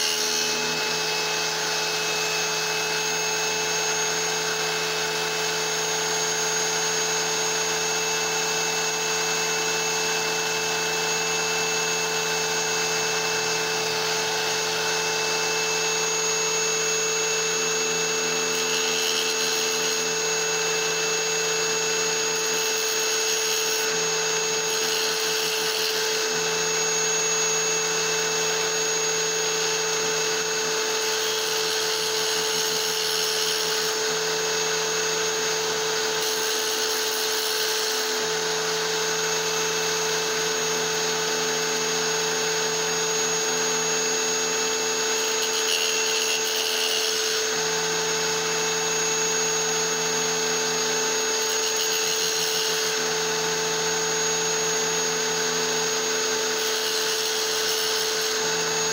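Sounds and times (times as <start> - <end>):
tile saw humming and whining: 0.0 - 58.9.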